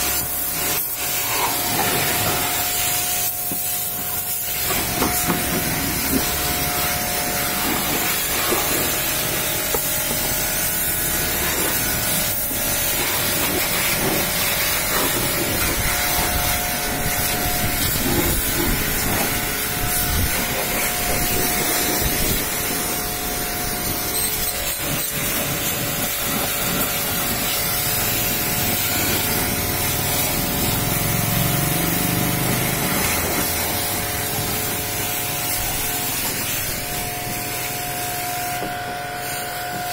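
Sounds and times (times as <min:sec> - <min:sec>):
pressure washer motor hum: 0:00.0 - 0:39.9
pressure washer spray hissing: 0:00.0 - 0:39.9.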